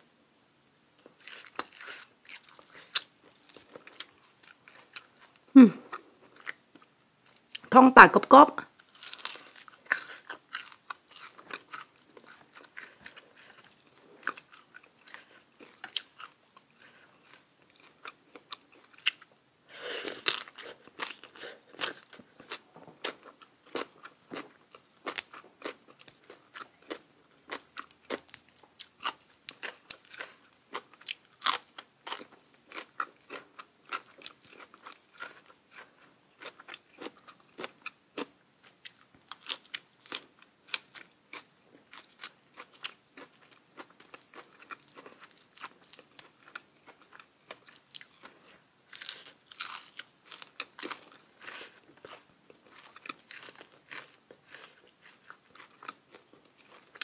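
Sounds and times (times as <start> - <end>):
crunchy chewing of fried fish: 0.6 - 7.7, 8.7 - 57.0.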